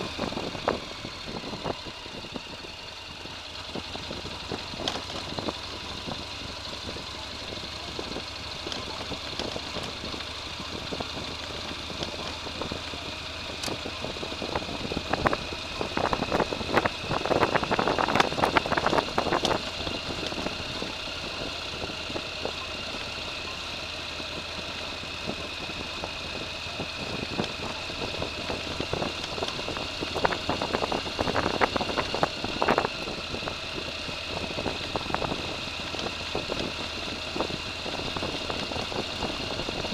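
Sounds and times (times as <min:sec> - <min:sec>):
engine crackling and rattling: 0:00.0 - 0:39.9
engine idling: 0:00.0 - 0:39.9.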